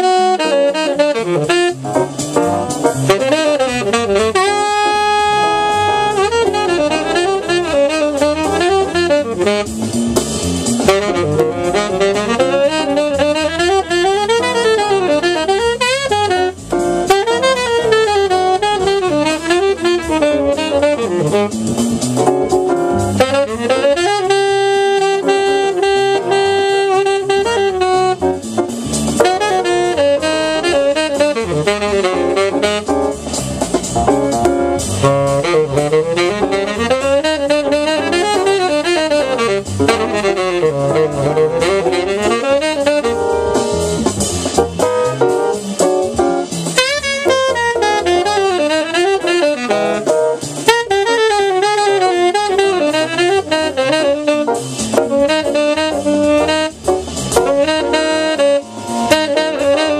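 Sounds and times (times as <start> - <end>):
tenor saxophone improvising blues: 0.0 - 59.9.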